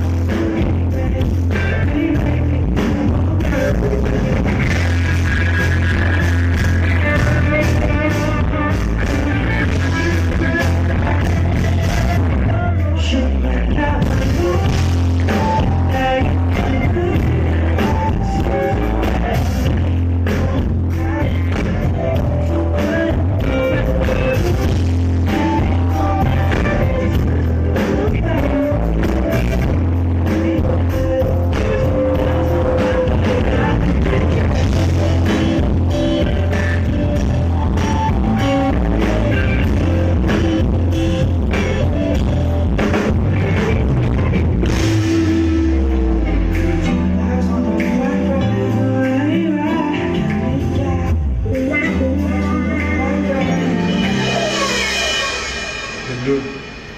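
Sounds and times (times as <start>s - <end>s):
drums: 0.0s - 56.9s
electric guitar: 0.0s - 56.9s
heavy bass: 0.0s - 56.9s
live rock band playing: 0.0s - 56.9s
person singing: 0.0s - 56.9s.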